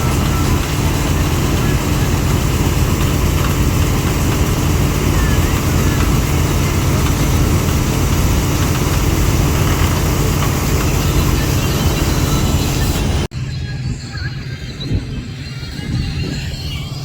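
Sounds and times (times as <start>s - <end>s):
harvester engine running: 0.0s - 17.0s.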